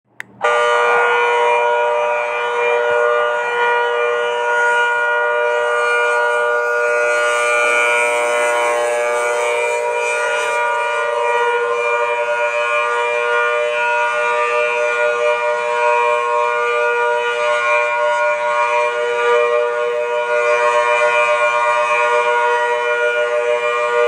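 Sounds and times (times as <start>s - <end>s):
dual-tone warning siren: 0.2s - 24.0s.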